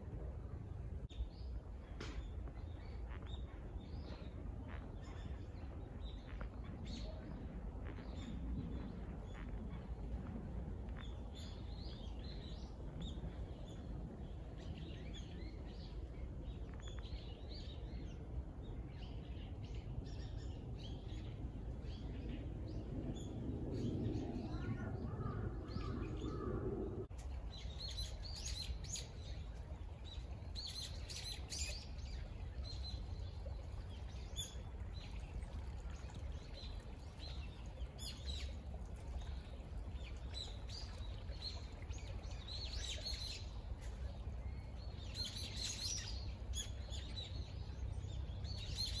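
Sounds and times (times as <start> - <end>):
low background rumble: 0.0 - 49.0.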